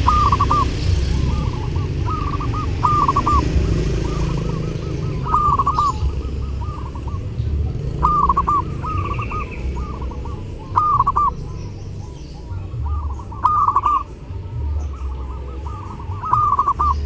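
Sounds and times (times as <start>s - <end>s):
dove cooing: 0.0s - 17.0s
steady low rumble: 0.0s - 17.0s.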